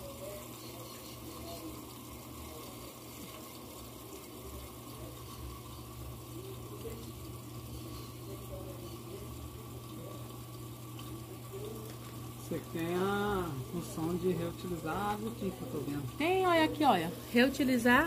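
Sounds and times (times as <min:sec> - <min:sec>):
water rushing into washing machine: 0:00.0 - 0:18.0.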